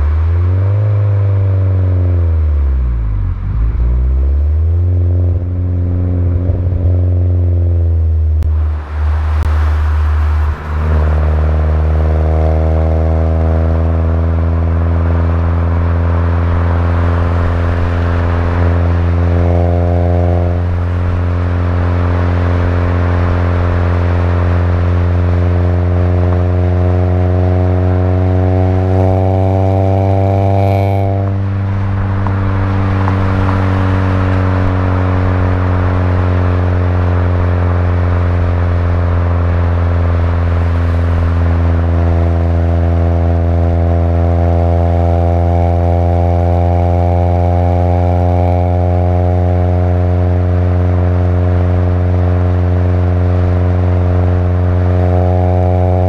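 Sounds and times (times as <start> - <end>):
car exhaust droning: 0.0 - 56.0.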